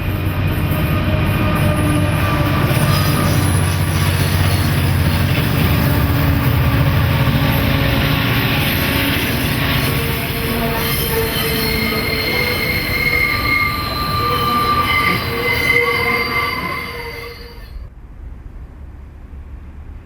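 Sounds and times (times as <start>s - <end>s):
train rumbling: 0.0s - 20.0s
train wheels squealing: 0.6s - 17.9s.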